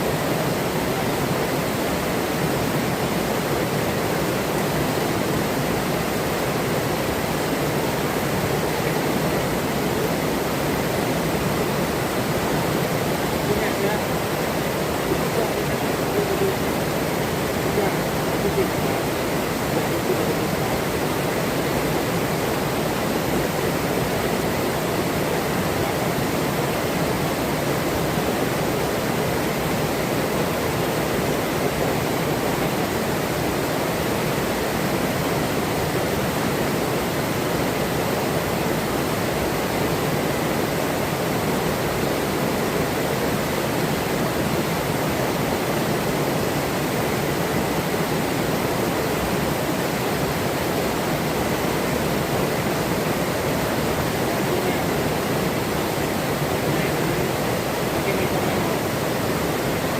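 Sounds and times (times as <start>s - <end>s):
river running water: 0.0s - 59.9s.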